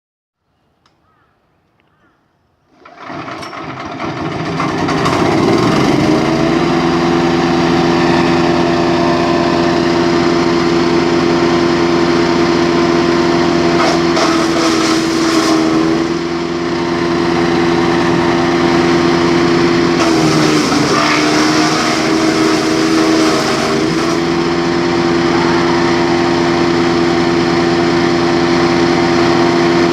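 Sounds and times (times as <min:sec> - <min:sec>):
wood chipper engine running: 0:02.7 - 0:29.9.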